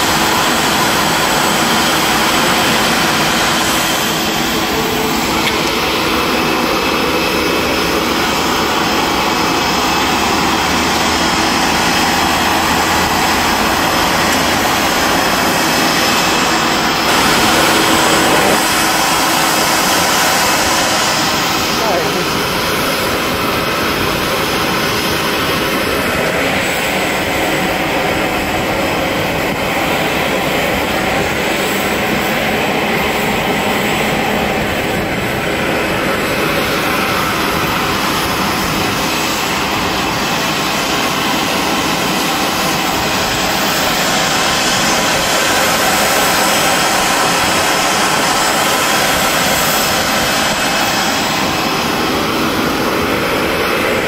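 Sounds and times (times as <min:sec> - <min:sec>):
jet turbine rushing and whining: 0:00.0 - 0:54.0.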